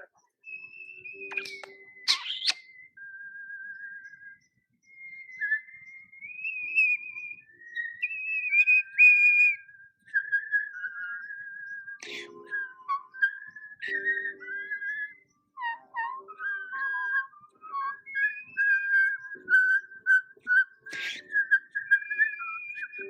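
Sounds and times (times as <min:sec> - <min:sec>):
starling whistling: 0:00.0 - 0:23.0.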